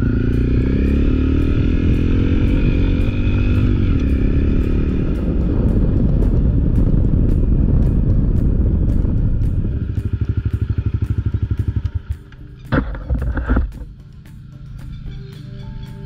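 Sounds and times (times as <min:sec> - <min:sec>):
wind noise: 0:00.0 - 0:13.9
motorcycle engine pulling away: 0:00.0 - 0:16.0
tyres on dirt road: 0:00.0 - 0:16.0.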